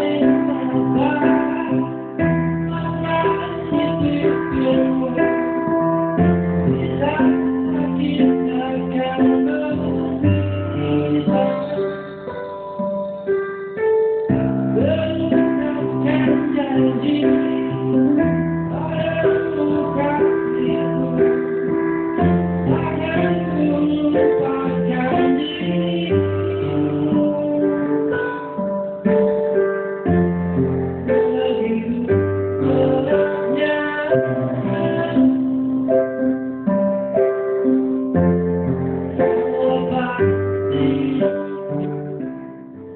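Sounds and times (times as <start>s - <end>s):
woman singing: 0.0s - 12.8s, 14.7s - 28.6s, 31.2s - 36.2s, 39.2s - 42.1s
keyboard chords: 0.0s - 42.9s.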